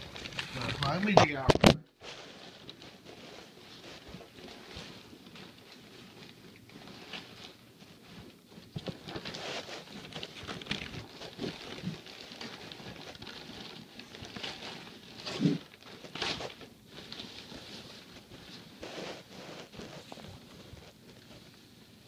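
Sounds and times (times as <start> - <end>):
paper rustling and crinkling: 0.0 - 22.0.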